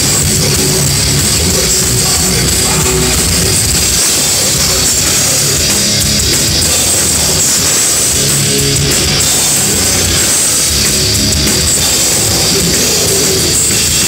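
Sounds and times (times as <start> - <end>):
distorted electric guitars: 0.0 - 14.0
drum kit: 0.0 - 14.0.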